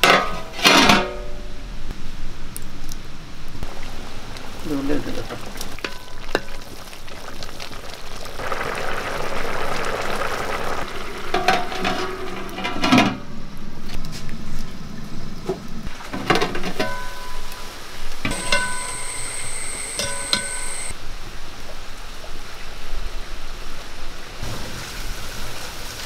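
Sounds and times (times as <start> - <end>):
rice boiling in water: 3.4 - 26.0.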